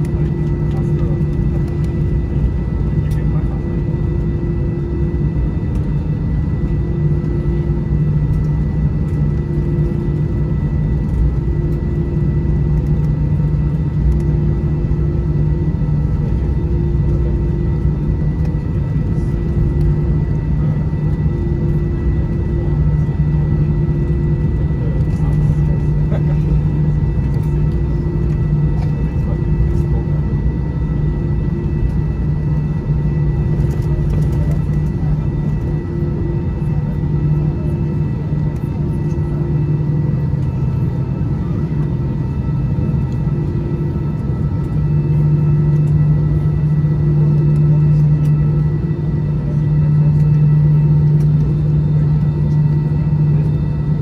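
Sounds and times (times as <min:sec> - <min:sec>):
aircraft engines idling hum: 0:00.0 - 0:54.0.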